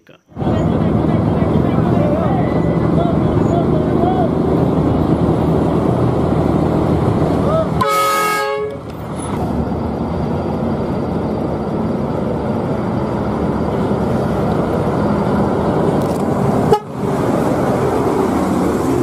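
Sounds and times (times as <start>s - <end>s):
coach bus passing: 0.3s - 19.0s.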